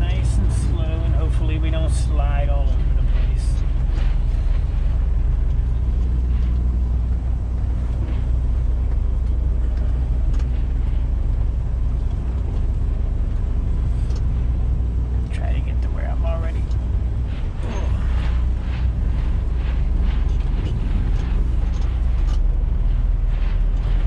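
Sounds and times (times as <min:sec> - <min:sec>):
rattles and ticks in cab: 0:00.0 - 0:24.0
truck engine and road drone: 0:00.0 - 0:24.0.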